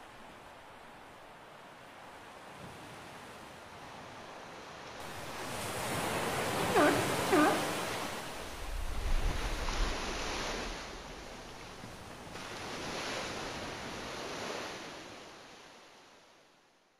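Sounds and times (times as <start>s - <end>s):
rushing sea water: 0.0s - 16.8s.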